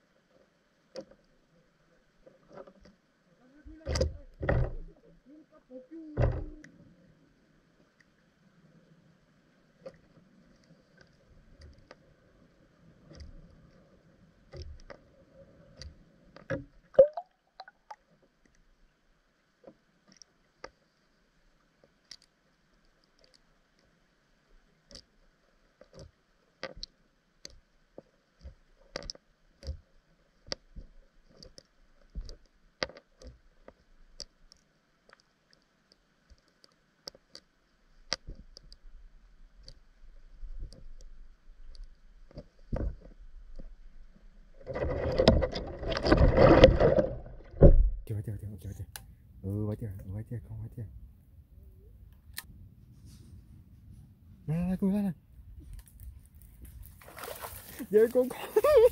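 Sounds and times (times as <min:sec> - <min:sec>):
underwater clicks and ticks: 0:00.0 - 0:05.1, 0:07.7 - 0:08.2, 0:09.7 - 0:50.1, 0:52.1 - 0:52.6, 0:55.0 - 0:58.9.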